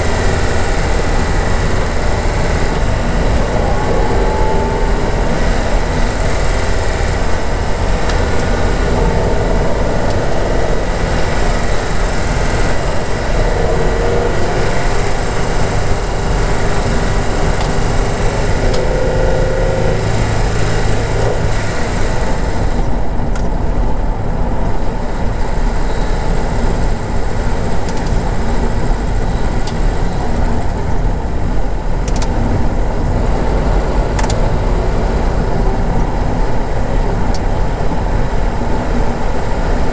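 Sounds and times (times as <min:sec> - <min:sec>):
vehicle engine and tyre noise: 0:00.0 - 0:39.9.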